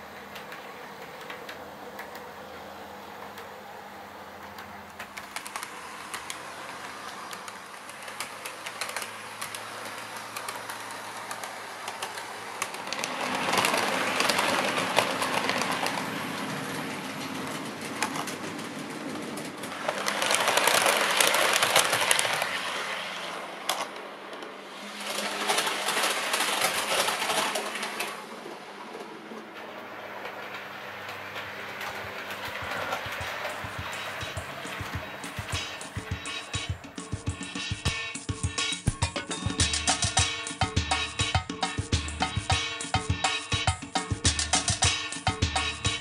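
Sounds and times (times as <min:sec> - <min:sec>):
model train wheels clicking: 0:00.0 - 0:38.9.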